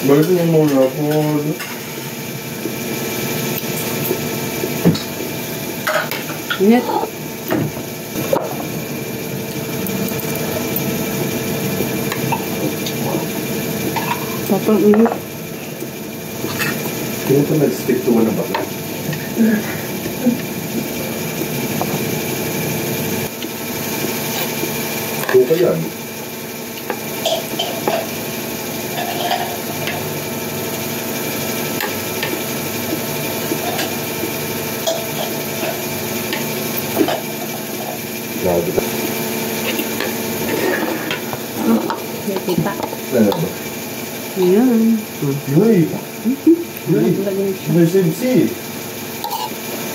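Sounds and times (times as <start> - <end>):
mechanical hum with hiss: 0.0 - 49.9.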